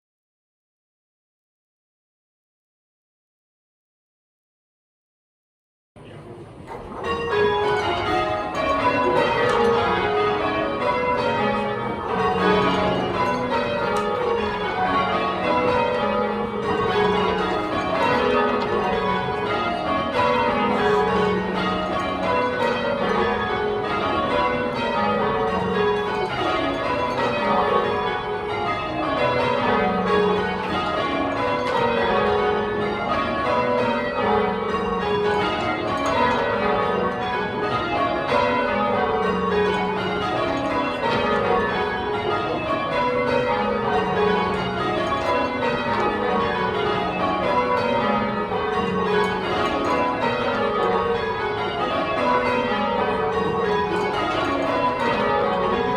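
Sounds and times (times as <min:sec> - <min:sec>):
church bells change ringing: 0:06.6 - 0:55.9.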